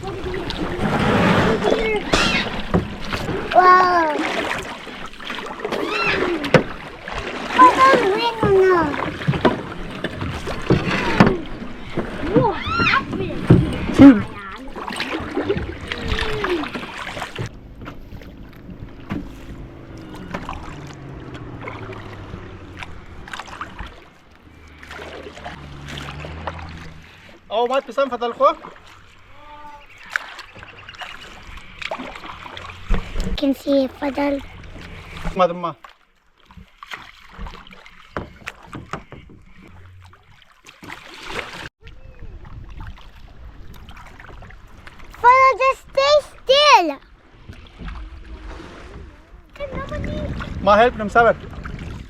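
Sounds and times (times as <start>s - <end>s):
paddle dips and water splashes: 0.0s - 52.0s.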